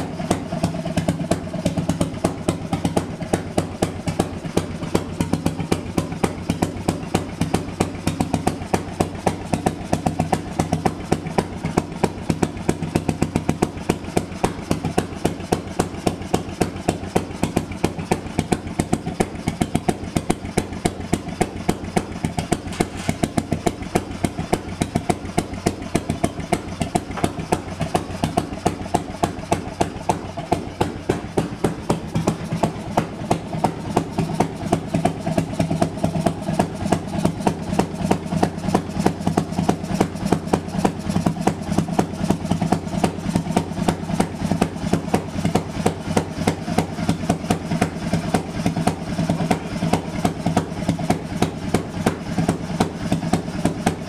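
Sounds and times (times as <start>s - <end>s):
railway engine exhaust pops: 0.0s - 54.0s.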